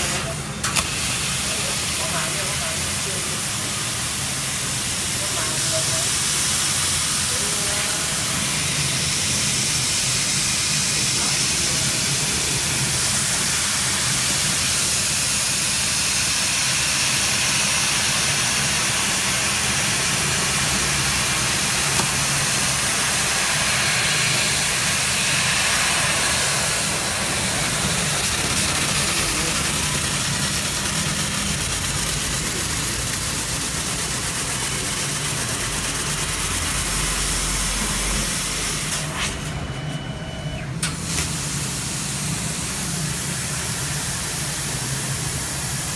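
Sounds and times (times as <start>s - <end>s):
laser cutting machine hiss: 0.0s - 45.9s.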